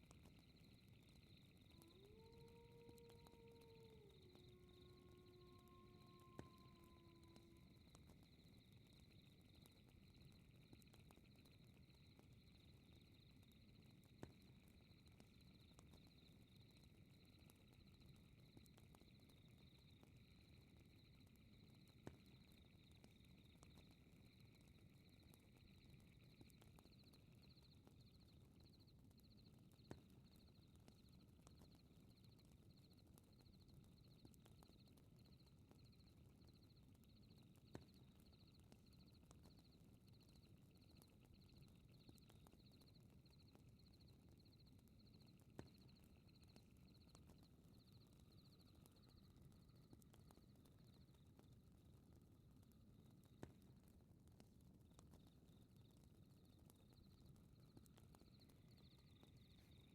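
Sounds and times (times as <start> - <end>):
insects chirping: 0.0 - 51.2, 55.2 - 59.9
fire crackle: 0.0 - 59.9
low rumble of fire: 0.0 - 59.9.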